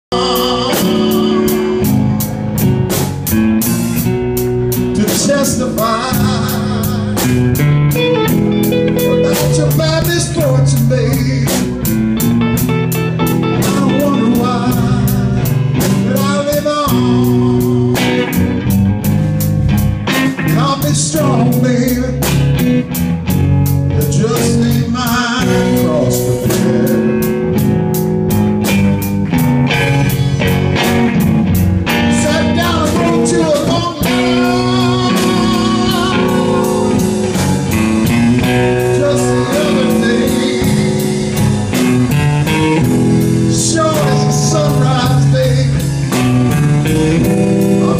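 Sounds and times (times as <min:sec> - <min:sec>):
bass guitar: 0:00.0 - 0:47.9
electric guitar: 0:00.0 - 0:47.9
steady drum beat: 0:00.1 - 0:47.9.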